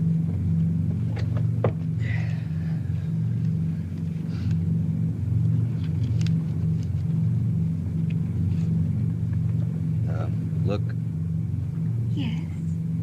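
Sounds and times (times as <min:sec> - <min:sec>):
airliner engine drone in cabin: 0:00.0 - 0:13.0.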